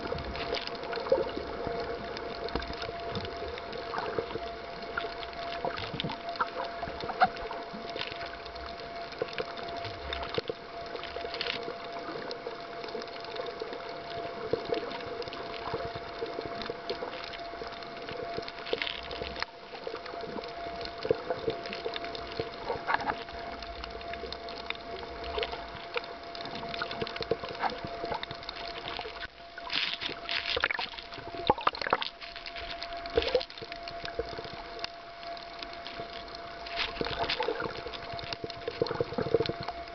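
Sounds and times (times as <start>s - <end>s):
underwater clicks and crackles: 0.0s - 39.9s
underwater steady hum: 0.0s - 39.9s.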